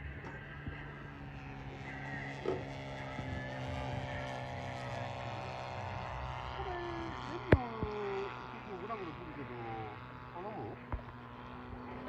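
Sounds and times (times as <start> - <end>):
model aircraft motor whine: 0.0 - 12.0.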